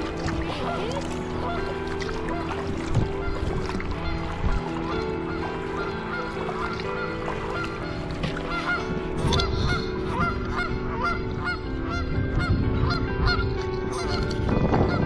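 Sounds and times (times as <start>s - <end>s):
geese honking: 0.0s - 14.3s.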